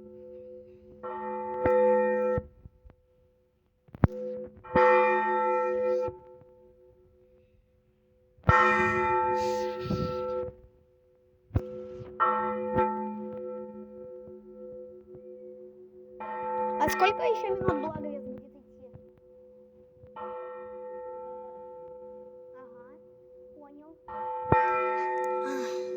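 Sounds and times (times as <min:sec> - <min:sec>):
large church bell tolling: 0:00.0 - 0:02.6, 0:04.2 - 0:07.6, 0:08.5 - 0:10.5, 0:11.6 - 0:25.9.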